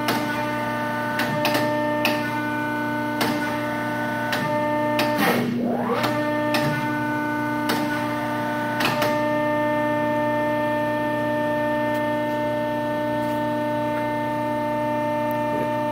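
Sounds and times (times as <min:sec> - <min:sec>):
hydraulic press pump humming: 0:00.0 - 0:15.9.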